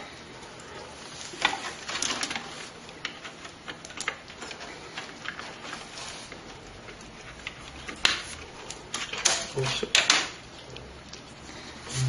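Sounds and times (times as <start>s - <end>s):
cables and connectors rattling: 0.0s - 10.5s.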